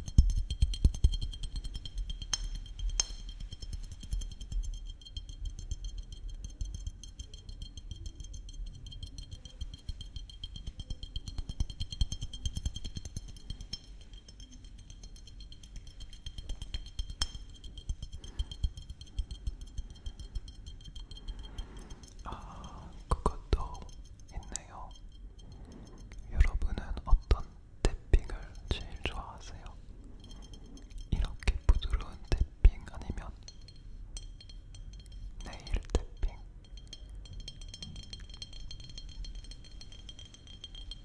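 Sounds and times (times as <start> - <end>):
fingers tapping on glass bottle: 0.0 - 41.0.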